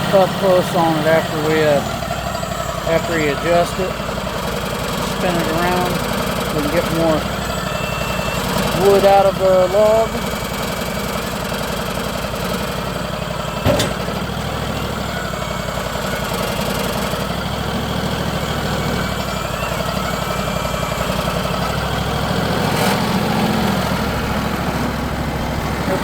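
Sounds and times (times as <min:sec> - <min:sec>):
sawmill engine idling: 0:00.0 - 0:26.0.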